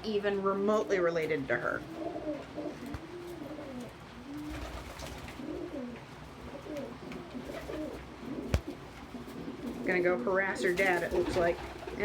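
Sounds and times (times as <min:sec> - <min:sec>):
doves cooing: 0:01.5 - 0:12.0.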